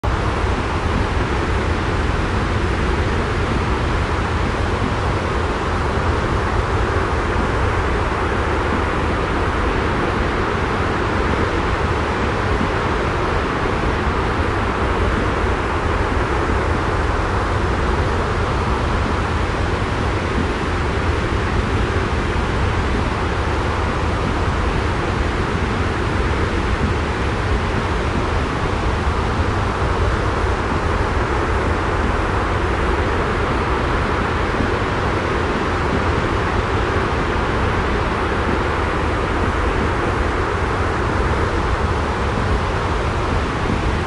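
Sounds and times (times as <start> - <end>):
sea rushing with low rumble: 0.0 - 44.0.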